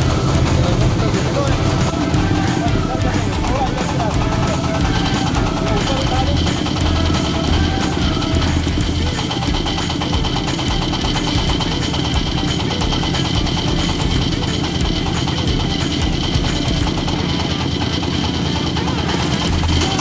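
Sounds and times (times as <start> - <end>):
background music with steady beat: 0.0 - 20.0
diesel engine running: 0.0 - 20.0.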